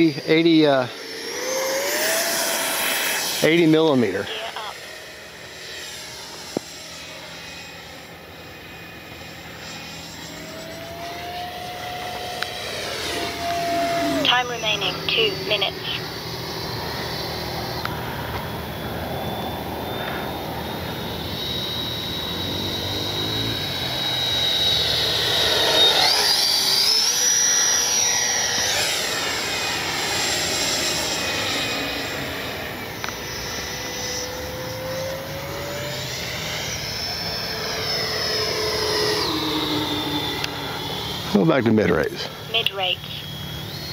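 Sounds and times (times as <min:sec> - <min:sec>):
electric ducted fan whining: 0:00.0 - 0:43.9.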